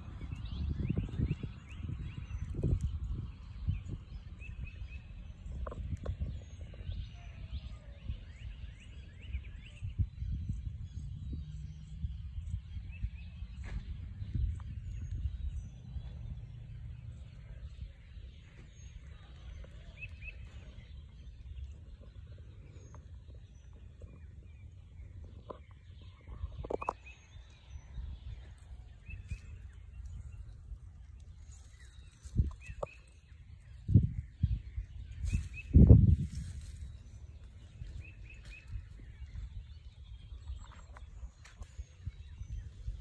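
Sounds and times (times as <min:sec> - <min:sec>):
low steady rumble: 0:00.0 - 0:43.0
small birds chirping: 0:00.0 - 0:43.0.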